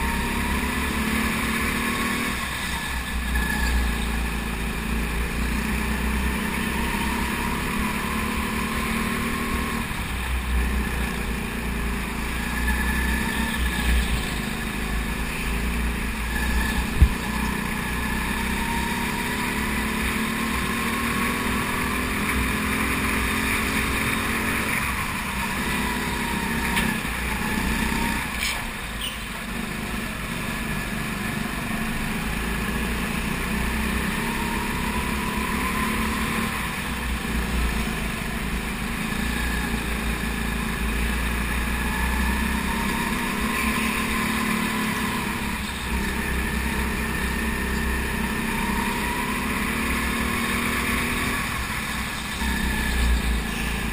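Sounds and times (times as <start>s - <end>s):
racing kart engine: 0.0s - 53.9s.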